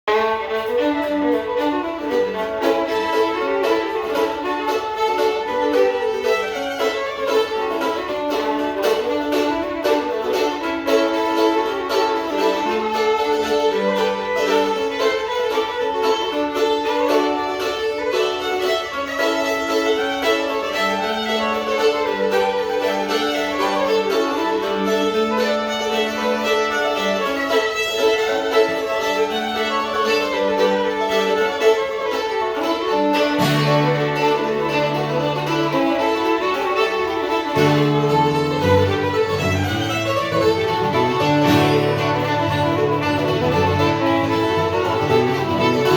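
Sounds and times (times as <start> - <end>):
fiddle playing fast melody: 0.0 - 45.9
plucked strings with bass: 0.1 - 45.9.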